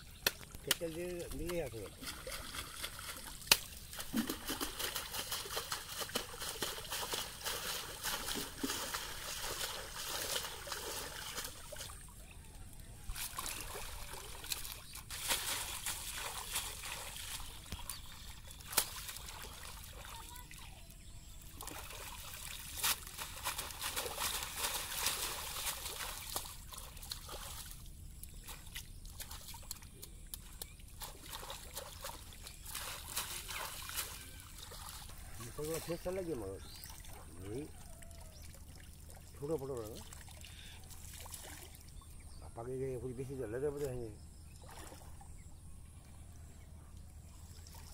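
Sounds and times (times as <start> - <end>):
stalks slapping water: 0.1 - 12.2, 12.8 - 20.7, 21.4 - 42.1, 44.6 - 45.2
water splashing and sloshing: 0.1 - 42.3, 43.5 - 45.4, 47.4 - 47.9.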